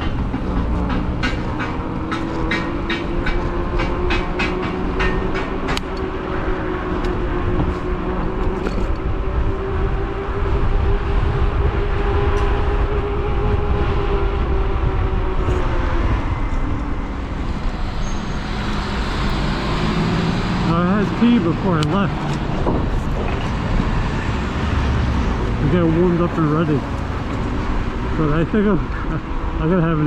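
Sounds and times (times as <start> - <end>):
road and wind rumble: 0.0 - 30.0.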